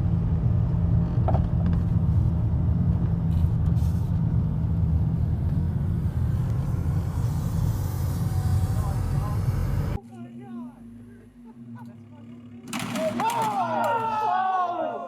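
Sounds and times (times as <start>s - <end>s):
vehicle low rumble: 0.0s - 14.6s.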